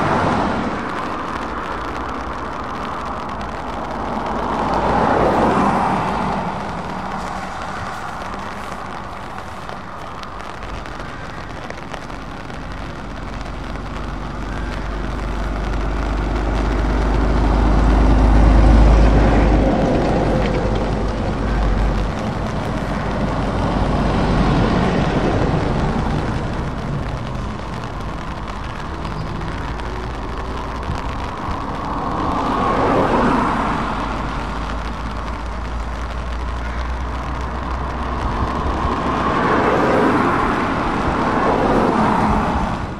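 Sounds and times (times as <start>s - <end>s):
vehicles passing on wet road: 0.0s - 42.9s.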